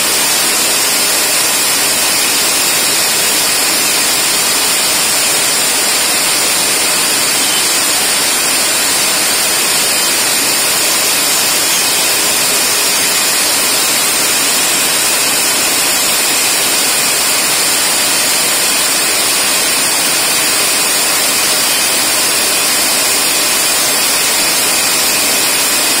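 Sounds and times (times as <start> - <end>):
milling machine cutting steel: 0.0 - 26.0.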